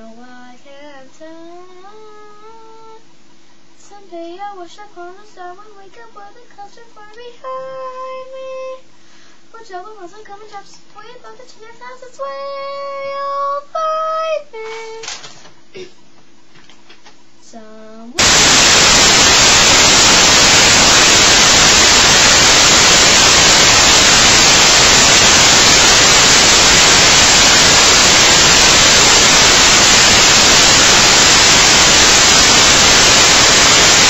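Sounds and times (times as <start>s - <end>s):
loud static hiss: 0.0s - 34.0s.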